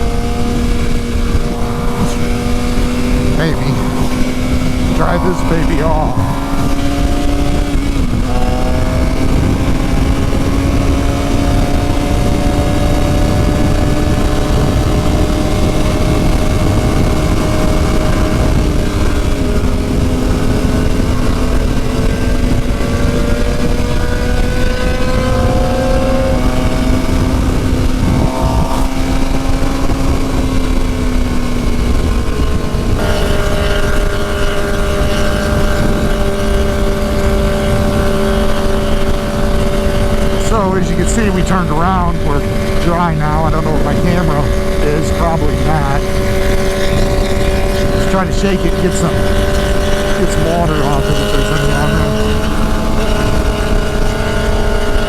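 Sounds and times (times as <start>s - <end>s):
wind rushing: 0.0s - 50.2s
motorcycle engine accelerating: 0.0s - 55.0s.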